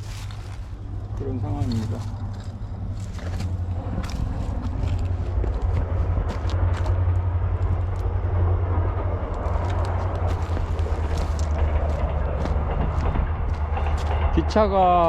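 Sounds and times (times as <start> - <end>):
steady low hum: 0.0 - 15.0
train rumbling past: 0.0 - 15.0.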